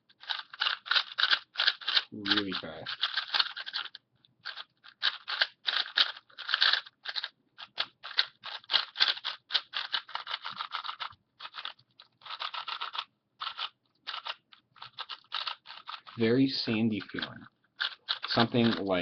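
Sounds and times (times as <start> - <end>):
puzzle cube plastic clicking: 0.1 - 16.2, 16.9 - 19.0.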